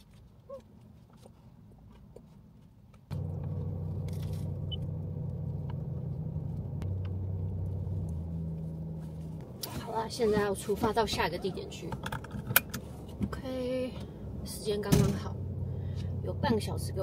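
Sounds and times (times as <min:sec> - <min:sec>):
car engine idling: 0:03.1 - 0:17.0.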